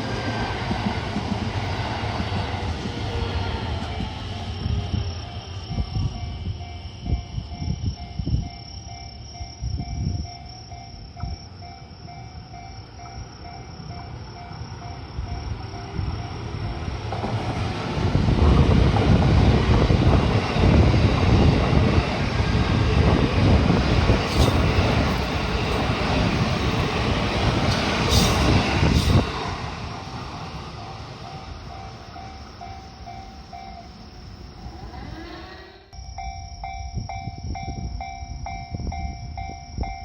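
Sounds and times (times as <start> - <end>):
train wheels rumbling on rails: 0.0 - 35.7.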